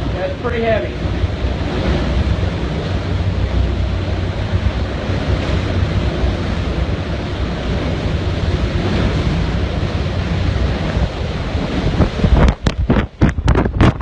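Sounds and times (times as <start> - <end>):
hurricane wind rushing: 0.0 - 14.0
wind buffeting microphone: 0.0 - 14.0.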